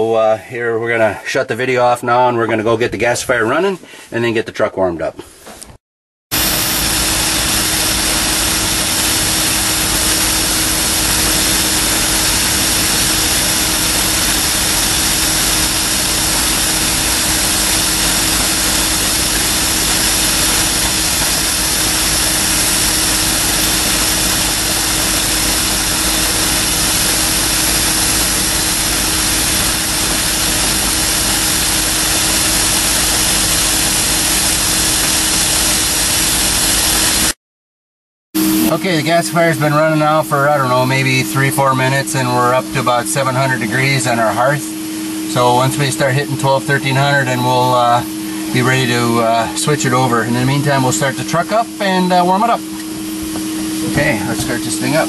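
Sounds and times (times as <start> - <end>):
electric blower running: 6.3 - 37.4, 38.4 - 55.0.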